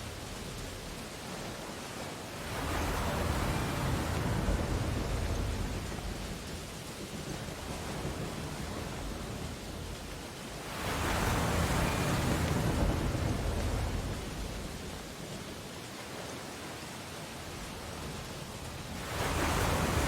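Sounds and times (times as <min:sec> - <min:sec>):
ocean waves on beach: 0:00.0 - 0:20.0.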